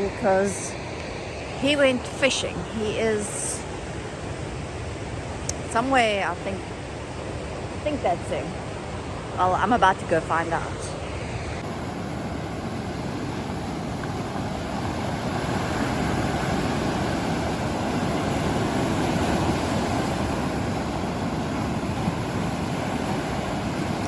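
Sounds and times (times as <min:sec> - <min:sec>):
ocean surf rushing onto shore: 0:00.0 - 0:24.0.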